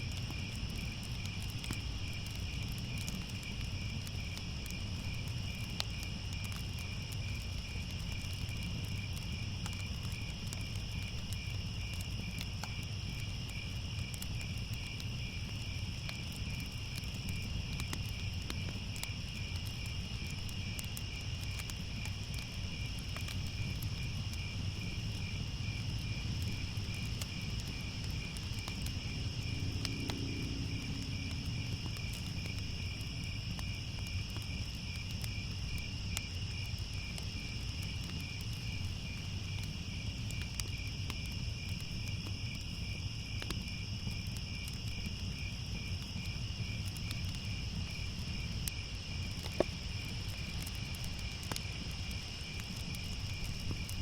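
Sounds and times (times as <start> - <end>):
crickets chirping: 0.0 - 54.0
fire crackling: 0.0 - 54.0.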